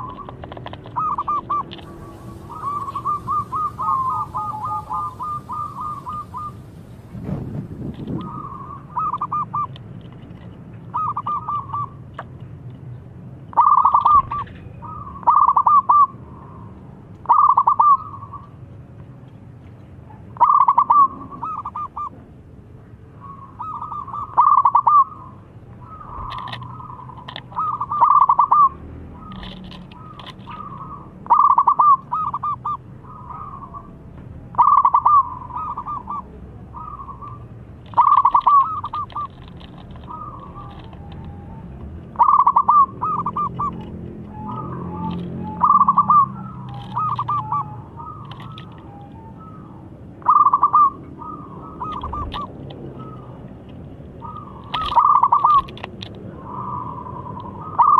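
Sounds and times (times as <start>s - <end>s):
dove cooing: 0.0s - 7.4s, 8.0s - 9.8s, 13.5s - 16.6s, 17.2s - 18.5s, 20.4s - 22.2s, 23.2s - 53.4s, 54.2s - 57.9s.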